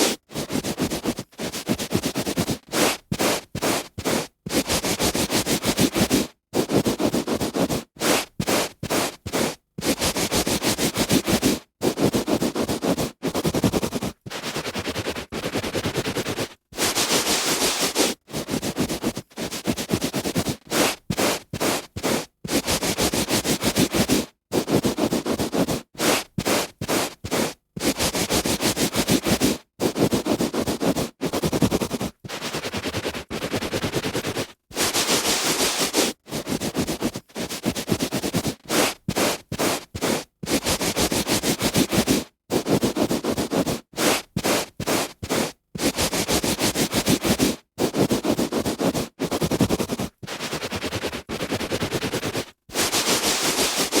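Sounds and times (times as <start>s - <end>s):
hand rubbing on carpet: 0.0s - 54.0s.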